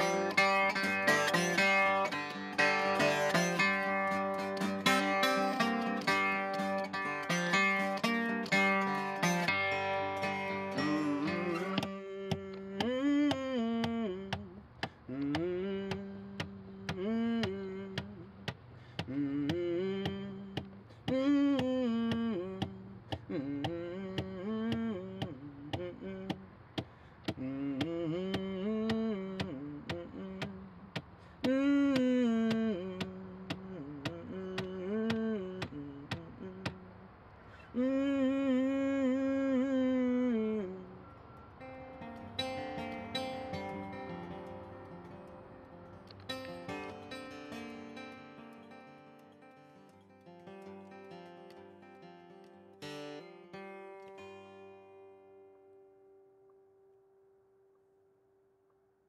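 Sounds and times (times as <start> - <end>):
man singing wordless melody: 0.0 - 26.6, 27.2 - 48.5
acoustic guitar notes: 0.0 - 58.0.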